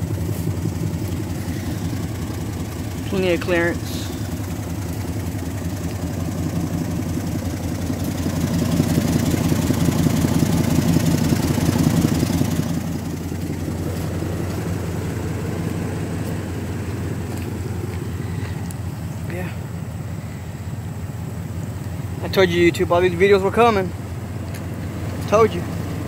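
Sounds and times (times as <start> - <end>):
pickup engine idling: 0.0 - 26.0.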